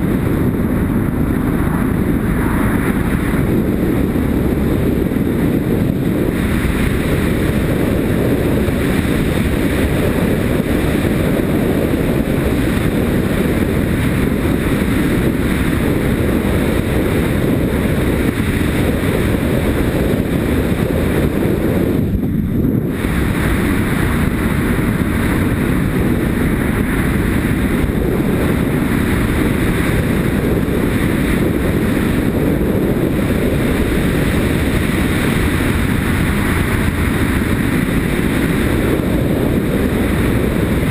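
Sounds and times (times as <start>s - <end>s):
motorcycle engine running: 0.0s - 40.9s
wind rushing over helmet: 0.0s - 40.9s.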